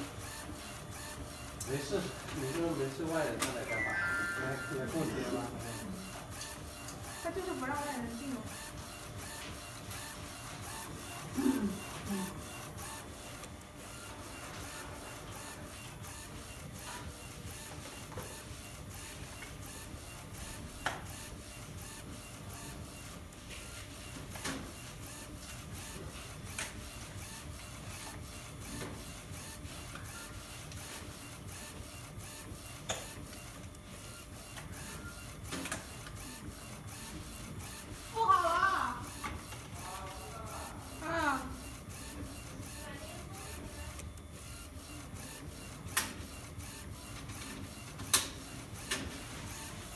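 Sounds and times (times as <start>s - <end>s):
printer carriage motor whirring: 0.0s - 49.9s.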